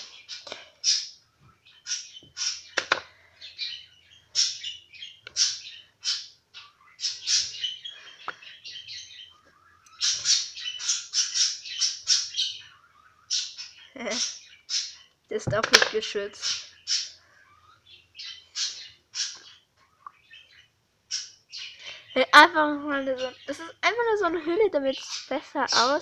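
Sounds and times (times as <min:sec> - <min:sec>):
small bird chirping: 0:00.0 - 0:26.0.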